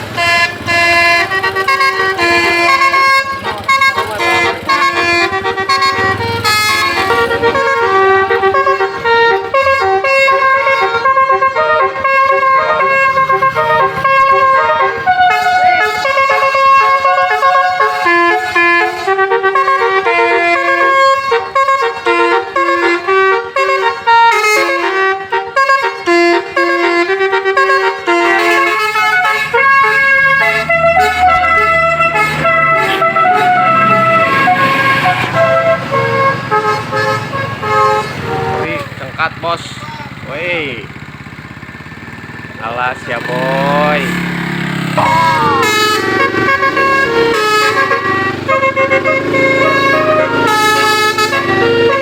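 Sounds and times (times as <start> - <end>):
multi-tone bus air horn tune: 0.0 - 52.0.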